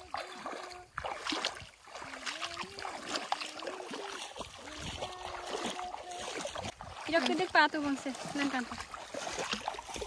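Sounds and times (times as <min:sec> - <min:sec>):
footsteps wading through water: 0:00.0 - 0:10.0.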